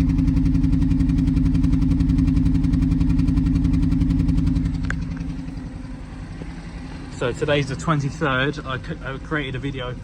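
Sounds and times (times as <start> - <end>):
car engine idling with misfire: 0.0 - 10.0.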